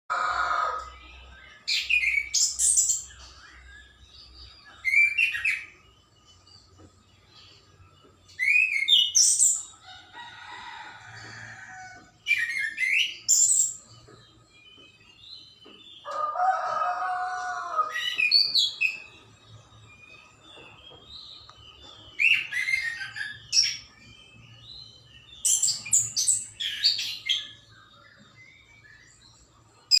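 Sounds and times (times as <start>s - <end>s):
birds chirping and singing: 0.1s - 30.0s.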